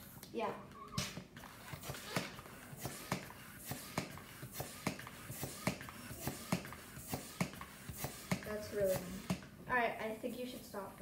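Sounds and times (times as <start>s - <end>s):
hand balloon pump clicking: 0.1s - 9.5s.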